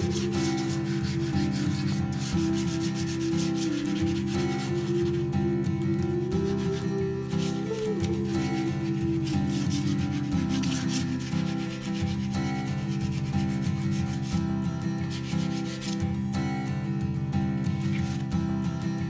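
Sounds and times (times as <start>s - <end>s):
chalk pastel scratching paper: 0.0s - 5.3s, 6.1s - 14.4s, 15.0s - 16.2s, 17.8s - 18.3s.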